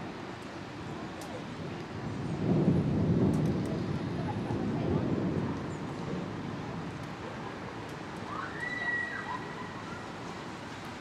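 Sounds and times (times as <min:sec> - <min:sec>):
rain hiss: 0:00.0 - 0:11.0
wind: 0:00.0 - 0:11.0
thunder rumble: 0:00.9 - 0:10.7.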